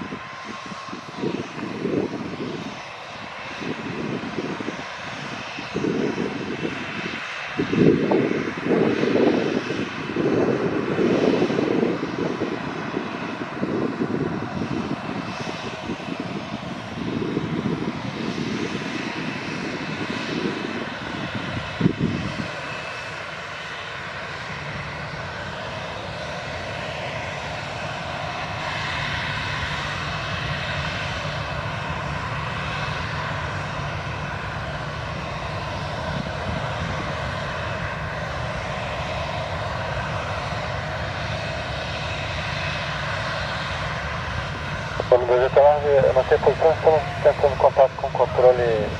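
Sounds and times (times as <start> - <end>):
low rumbling gusts: 0.0 - 23.4, 24.4 - 48.9
jet engines idling: 6.2 - 48.9.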